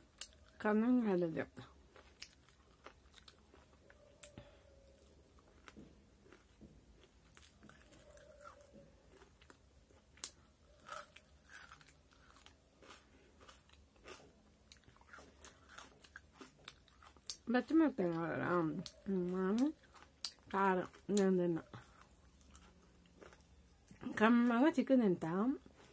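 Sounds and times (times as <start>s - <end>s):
chewing fried food: 1.6s - 24.2s, 25.6s - 25.9s.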